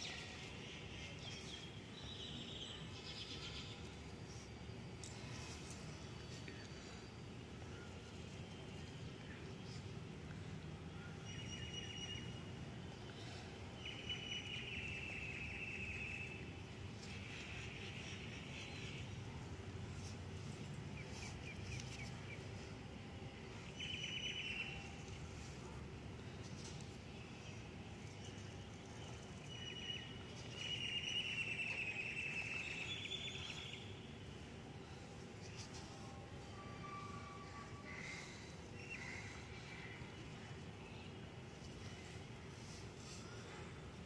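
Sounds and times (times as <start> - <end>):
low background hiss: 0.0 - 44.0
low background hum: 0.0 - 44.0.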